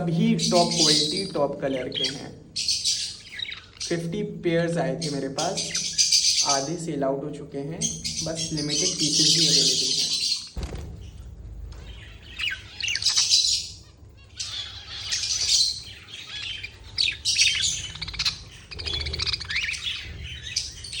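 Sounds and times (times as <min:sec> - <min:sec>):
budgerigars chattering: 0:00.0 - 0:10.6, 0:11.8 - 0:21.0.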